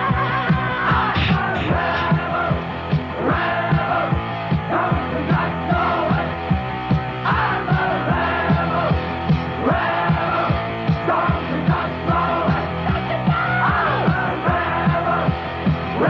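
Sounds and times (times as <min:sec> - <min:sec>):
lo-fi rock song with singing: 0:00.0 - 0:16.0.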